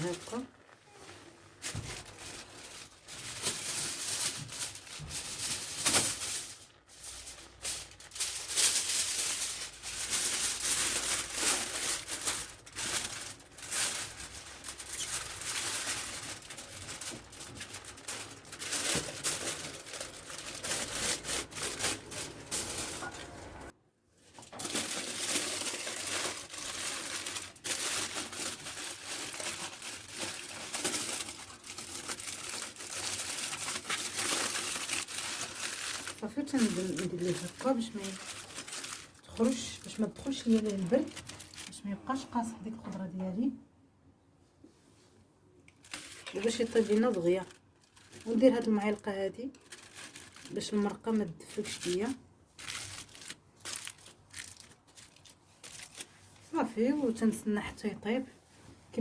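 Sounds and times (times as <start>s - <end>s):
aluminium foil crinkling: 0.0s - 42.2s, 45.6s - 57.4s.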